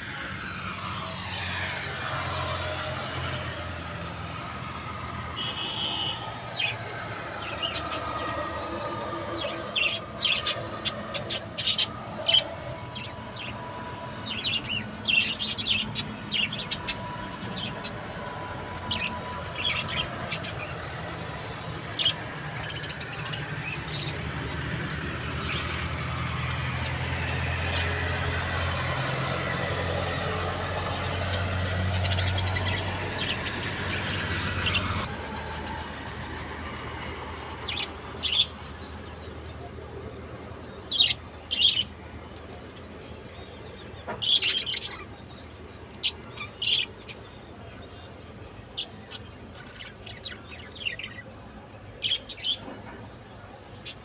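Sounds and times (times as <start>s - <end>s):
vehicle engine humming: 0.0s - 54.0s
small birds chirping: 5.0s - 28.4s, 29.6s - 35.8s, 37.4s - 54.0s.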